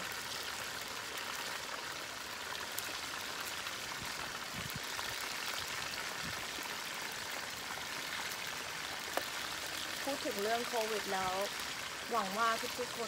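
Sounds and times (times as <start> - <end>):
chicken wings sizzling in oil: 0.0 - 13.0.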